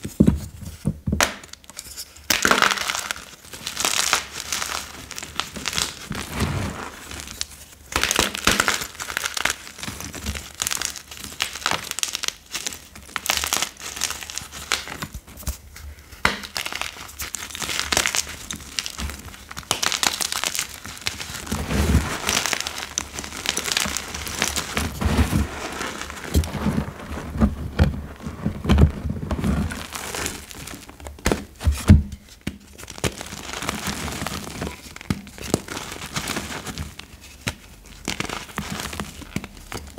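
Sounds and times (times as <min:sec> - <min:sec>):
chalk crumbling and crunching: 0:01.8 - 0:15.6, 0:16.2 - 0:31.7, 0:32.5 - 0:39.5.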